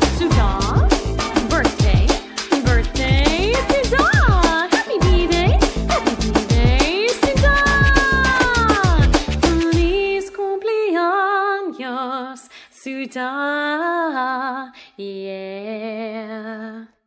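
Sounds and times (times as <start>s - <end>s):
woman singing slow melody: 1.7s - 5.8s, 6.5s - 17.0s.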